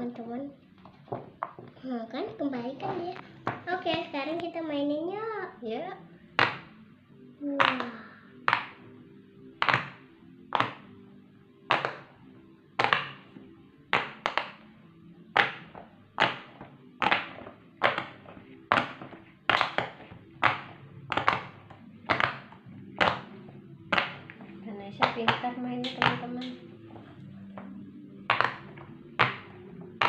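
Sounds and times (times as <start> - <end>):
faint background music: 0.0 - 30.0.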